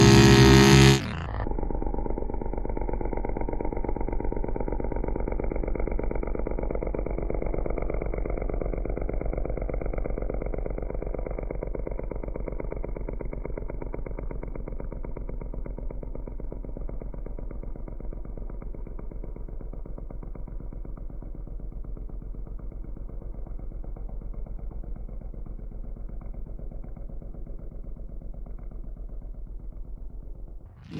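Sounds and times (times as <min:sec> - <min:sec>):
quad engine idling: 0:00.0 - 0:30.9.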